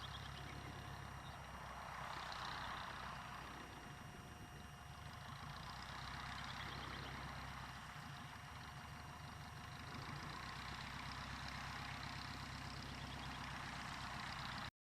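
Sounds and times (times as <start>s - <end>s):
light aircraft engine droning: 0.0s - 14.7s.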